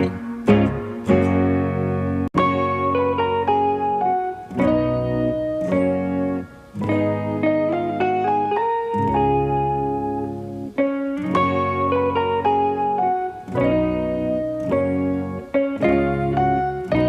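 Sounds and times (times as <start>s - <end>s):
bass notes: 0.0s - 17.0s
plucked guitar melody: 0.0s - 17.0s.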